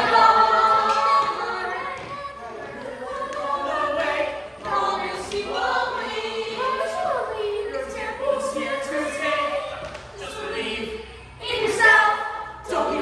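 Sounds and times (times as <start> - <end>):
group singing in chorus: 0.0 - 13.0.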